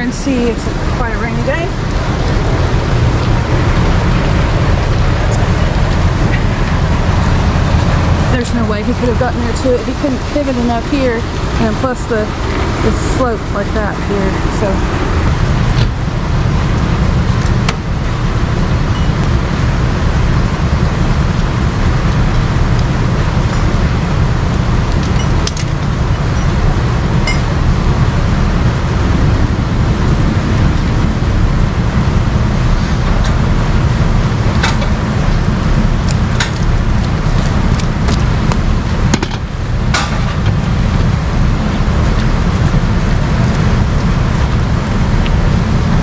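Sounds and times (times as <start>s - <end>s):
falling rain hiss: 0.0s - 46.0s
truck engine idling: 0.0s - 46.0s.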